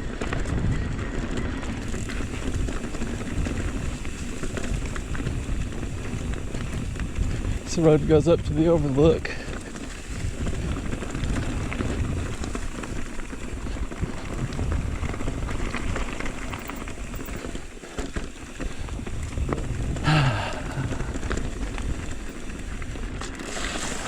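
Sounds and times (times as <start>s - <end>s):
bike tyres crunching on gravel: 0.0s - 24.0s
wind on camera: 0.0s - 24.0s.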